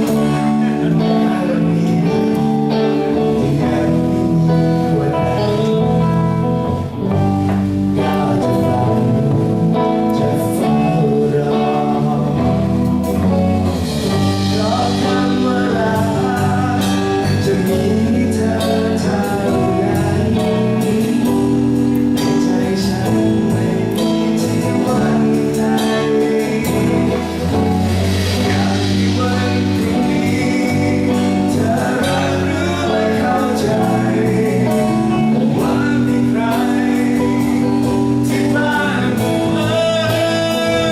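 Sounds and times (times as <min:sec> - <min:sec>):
live band playing: 0:00.0 - 0:40.9
person singing: 0:00.0 - 0:40.9.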